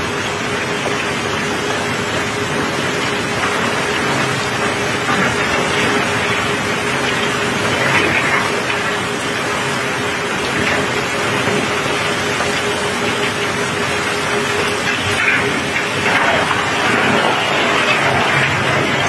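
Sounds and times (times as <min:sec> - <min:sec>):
constant machine hum: 0:00.0 - 0:19.0
rain on a steel deck: 0:00.0 - 0:19.0.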